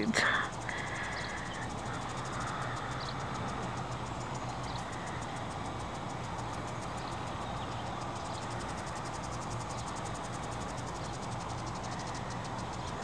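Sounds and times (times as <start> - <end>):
insects chirping: 0.0 - 13.0
low background rush: 0.0 - 13.0.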